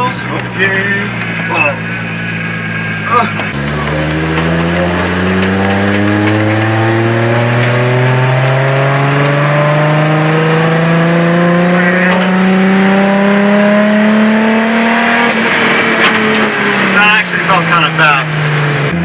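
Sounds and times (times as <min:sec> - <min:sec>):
car engine revving under full throttle: 0:00.0 - 0:19.0.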